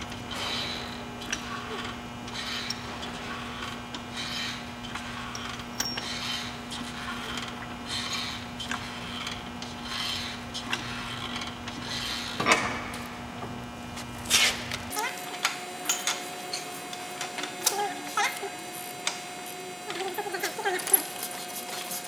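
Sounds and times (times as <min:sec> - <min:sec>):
hydraulic jack pumping: 0:00.0 - 0:22.0
steady low hum: 0:00.0 - 0:22.0.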